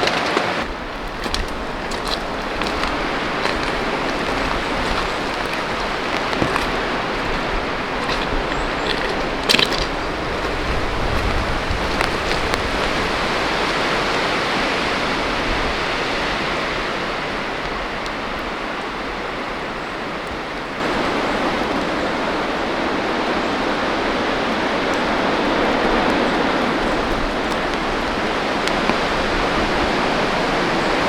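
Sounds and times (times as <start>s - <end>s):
heavy rain hissing: 0.0s - 31.0s.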